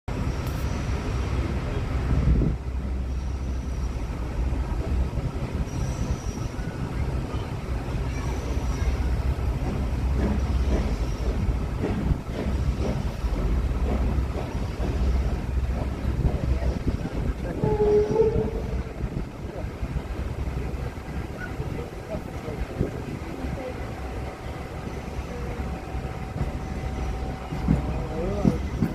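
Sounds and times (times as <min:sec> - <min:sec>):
train rumbling on track: 0:00.1 - 0:28.9.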